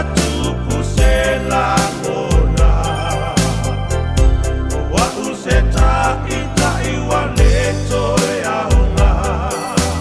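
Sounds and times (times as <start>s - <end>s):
man singing a slow song: 0.0s - 3.9s, 4.7s - 10.0s
backing track with bass and kick drum: 0.0s - 10.0s.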